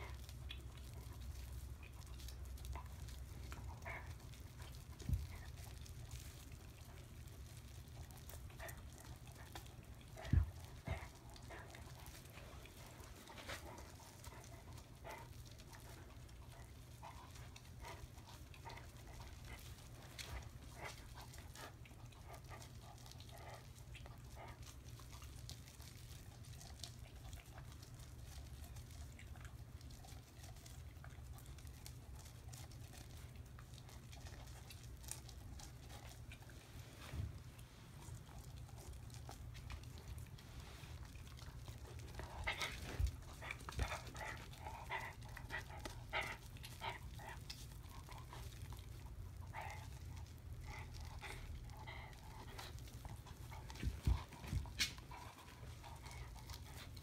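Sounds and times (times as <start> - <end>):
dog crunching corn cob: 0.0 - 57.0
low steady hum: 0.0 - 57.0.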